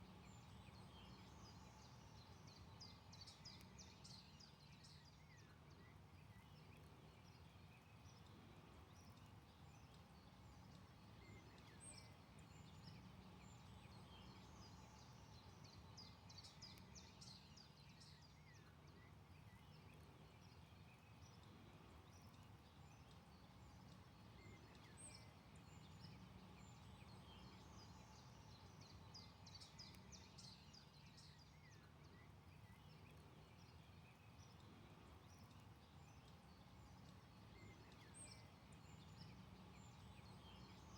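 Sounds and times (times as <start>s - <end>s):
faint birdsong: 0.0s - 40.9s
low steady background noise: 0.0s - 40.9s.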